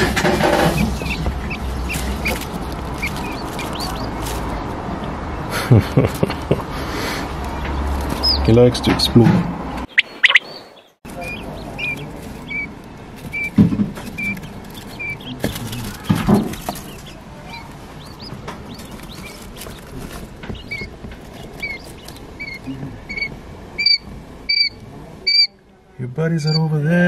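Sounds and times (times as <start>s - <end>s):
quail chicks peeping: 0.0s - 5.5s, 6.1s - 9.1s, 9.7s - 25.6s, 26.3s - 26.8s
rustling bumps: 0.0s - 24.5s.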